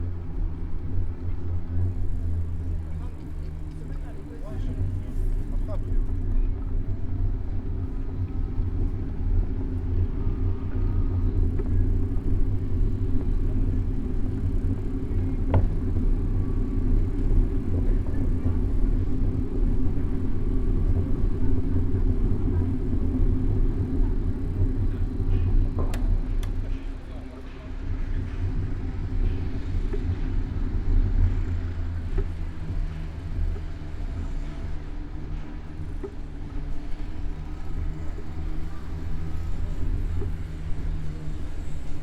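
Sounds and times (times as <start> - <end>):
bicycle riding rumble: 0.0 - 42.0.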